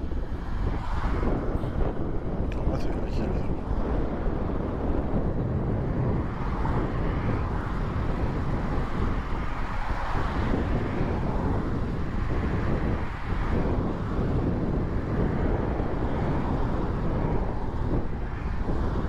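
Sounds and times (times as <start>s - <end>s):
cars passing close by: 0.0s - 19.0s.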